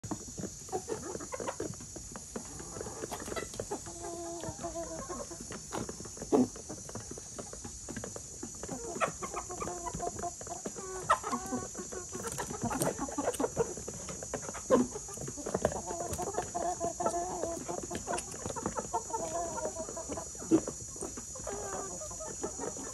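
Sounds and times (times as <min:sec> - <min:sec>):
hens and roosters clucking: 0:00.0 - 0:22.9.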